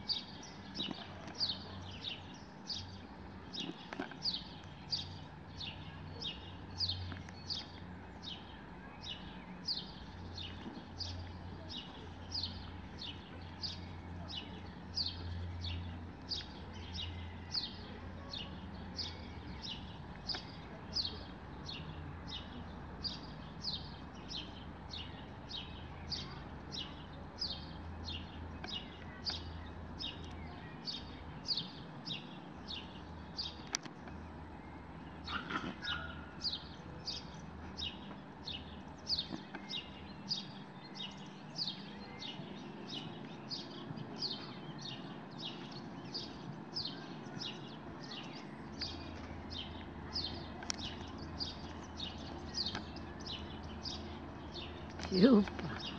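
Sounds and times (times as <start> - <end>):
songbird chirping: 0.0 - 55.9.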